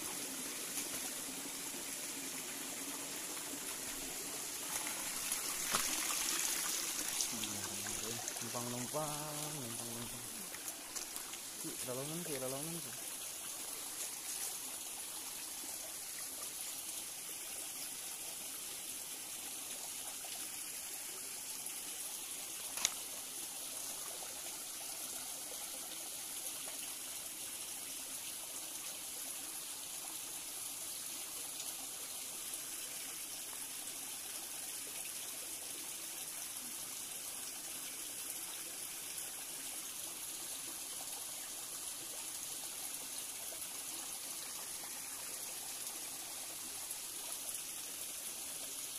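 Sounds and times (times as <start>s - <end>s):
stream trickling: 0.0s - 48.9s.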